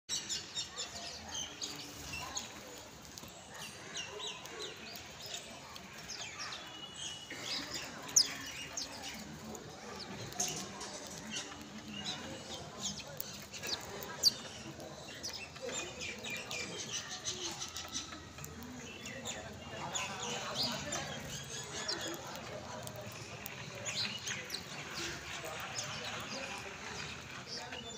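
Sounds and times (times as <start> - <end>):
sparrows chirping: 0.1 - 27.9.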